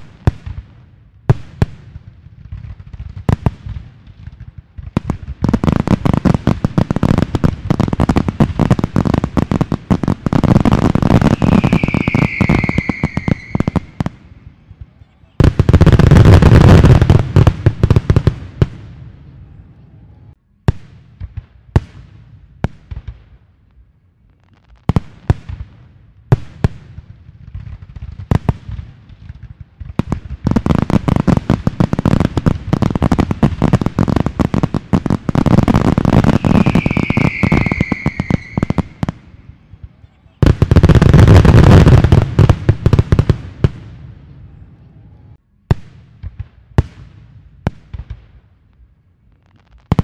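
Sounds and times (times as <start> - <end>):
fireworks bursting: 0.0 - 23.5, 24.3 - 50.0.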